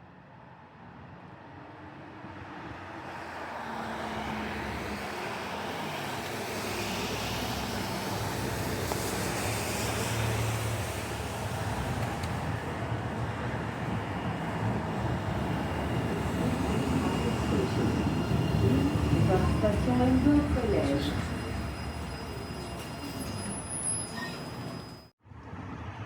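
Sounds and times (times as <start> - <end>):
rail train rumbling: 0.8 - 26.0.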